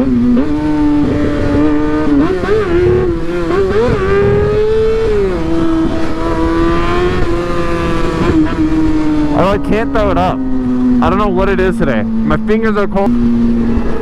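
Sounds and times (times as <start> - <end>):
wind rumble on microphone: 0.0 - 12.4
motorcycle engine cruising: 0.0 - 14.0.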